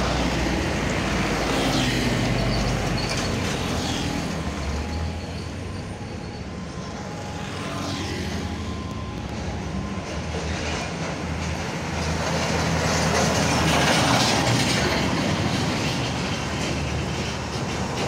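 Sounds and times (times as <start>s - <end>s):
heavy truck approaching: 0.0s - 18.0s
vehicles passing: 0.0s - 18.0s.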